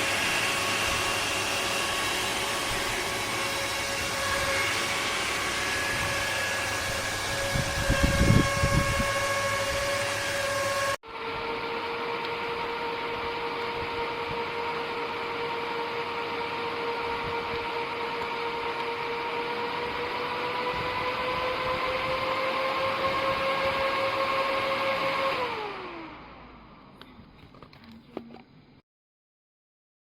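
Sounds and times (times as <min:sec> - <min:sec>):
small electric fan whining: 0:00.0 - 0:28.4.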